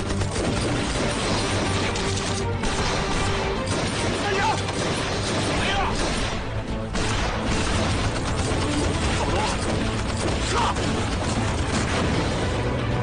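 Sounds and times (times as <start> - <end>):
rapid pistol gunfire: 0.0 - 12.6.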